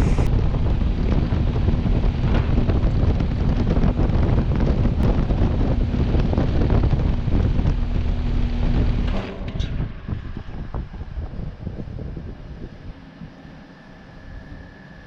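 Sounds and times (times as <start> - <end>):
heat pump fan blowing air: 0.0 - 15.0
steady hum: 0.0 - 15.0.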